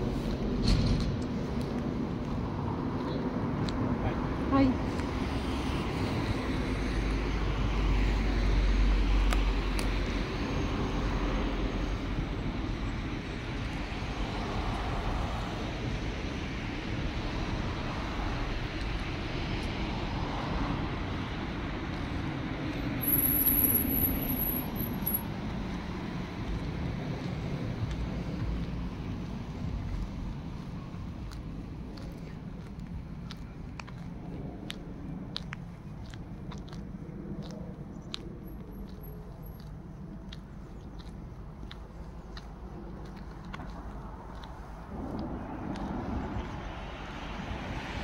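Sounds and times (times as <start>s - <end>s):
road traffic rush: 0.0s - 48.0s.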